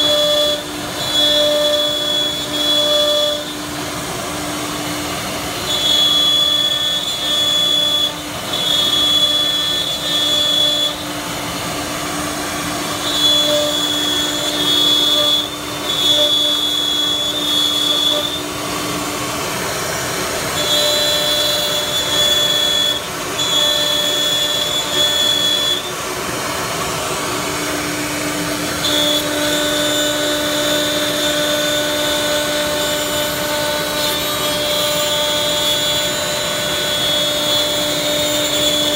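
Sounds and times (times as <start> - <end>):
router bits whining in wood: 0.0 - 38.9
router spindles humming: 0.0 - 38.9.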